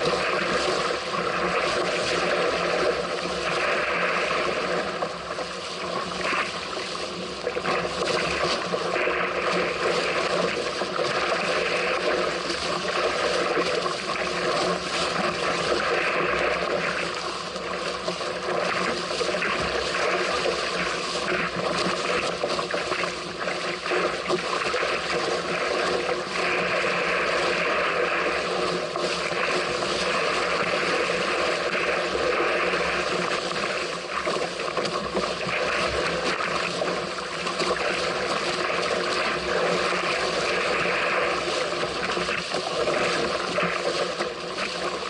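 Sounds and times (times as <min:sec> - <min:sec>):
water rushing and splashing: 0:00.0 - 0:45.0.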